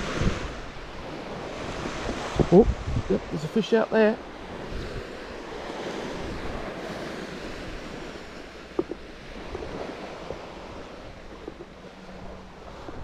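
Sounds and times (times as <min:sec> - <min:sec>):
waves washing on sandy beach: 0:00.0 - 0:13.0.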